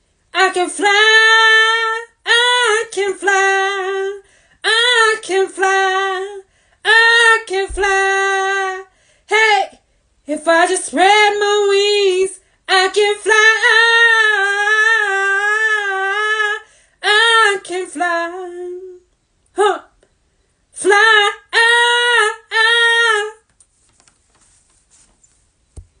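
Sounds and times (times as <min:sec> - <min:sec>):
woman singing unaccompanied: 0:00.3 - 0:20.1, 0:20.7 - 0:23.5.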